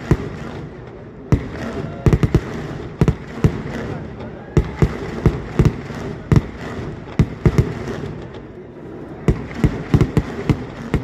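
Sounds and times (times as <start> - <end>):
continuous rumble: 0.0 - 11.0
fireworks bangs: 0.0 - 11.0.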